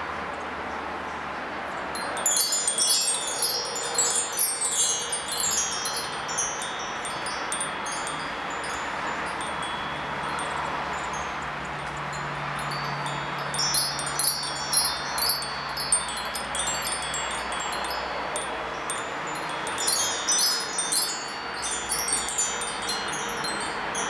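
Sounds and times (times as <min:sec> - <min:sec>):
steady background hiss: 0:00.0 - 0:24.0
wind chimes tinkling: 0:01.8 - 0:24.0.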